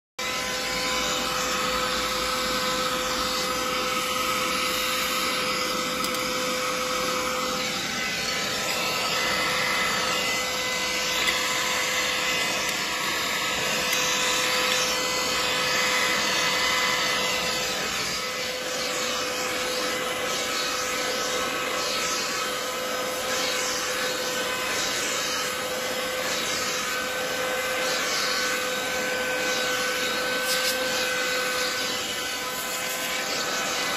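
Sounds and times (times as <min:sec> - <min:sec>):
handheld vacuum whining: 0:00.2 - 0:33.9.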